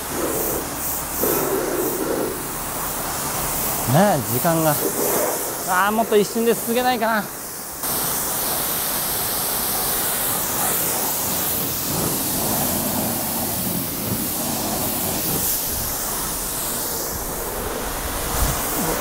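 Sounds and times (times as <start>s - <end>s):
hose water spraying on car: 0.0s - 19.0s.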